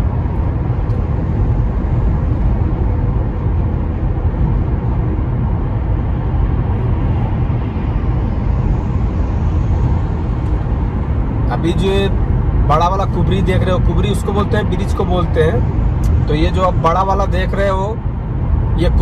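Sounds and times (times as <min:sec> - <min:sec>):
road and tyre noise in car: 0:00.0 - 0:19.0.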